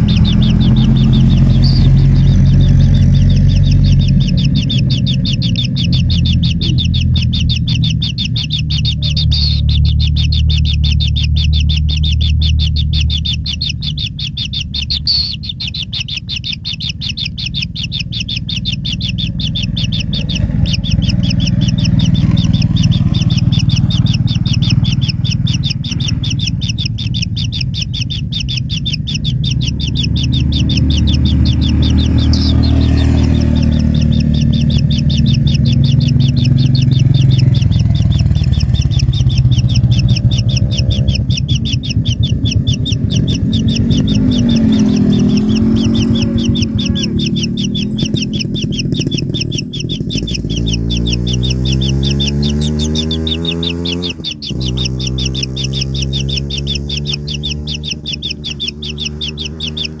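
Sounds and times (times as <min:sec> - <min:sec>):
nestlings churring trill: 0:00.0 - 1:00.0.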